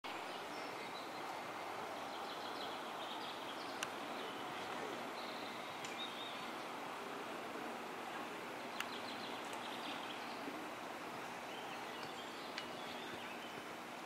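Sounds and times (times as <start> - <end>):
small birds chirping: 0.1 - 14.0
steady background hiss: 0.1 - 14.0.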